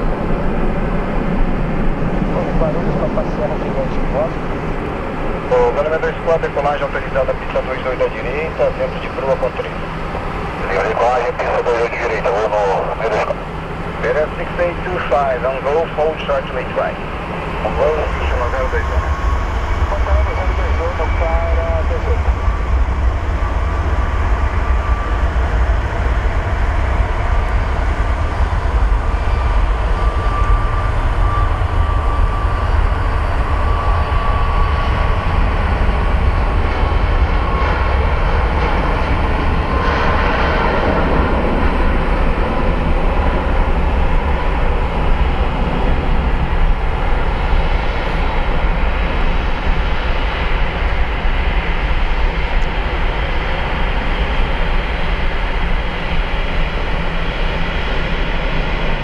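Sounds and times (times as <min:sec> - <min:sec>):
jet engine roar: 0:00.0 - 0:59.0
faint high whine: 0:01.9 - 0:57.6.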